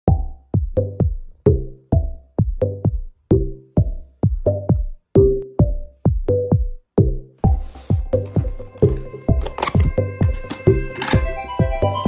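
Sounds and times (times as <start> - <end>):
electronic music with drum-machine beat: 0.1 - 12.0.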